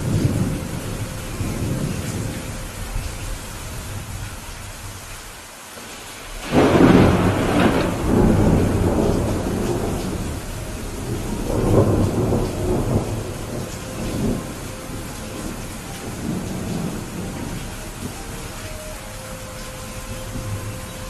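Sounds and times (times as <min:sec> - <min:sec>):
thunder rumbling: 0:00.0 - 0:05.0, 0:05.8 - 0:21.0
steady rain: 0:00.0 - 0:21.0.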